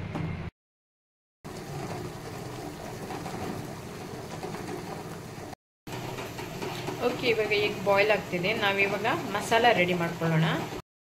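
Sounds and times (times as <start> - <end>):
water boiling in a pot: 1.5 - 10.8.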